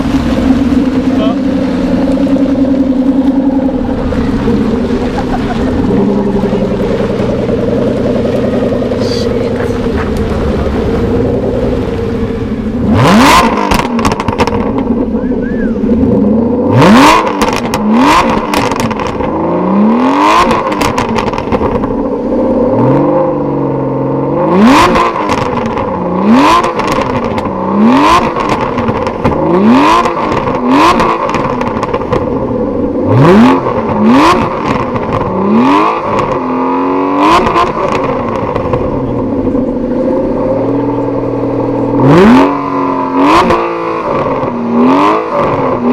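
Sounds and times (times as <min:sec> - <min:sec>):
car engine revving: 0:00.0 - 0:45.9
exhaust crackles: 0:00.0 - 0:45.9.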